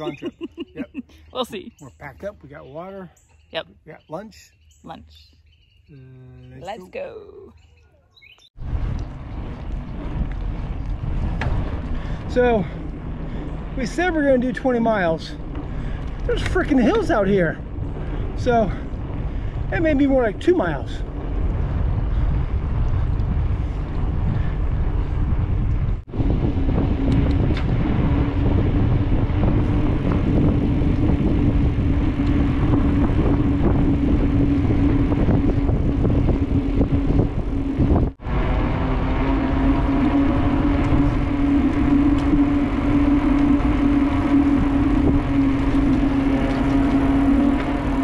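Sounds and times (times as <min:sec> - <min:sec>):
constant low hum: 0:00.0 - 0:48.0
bike tyre rumble: 0:08.2 - 0:48.0
wind rush: 0:08.6 - 0:48.0.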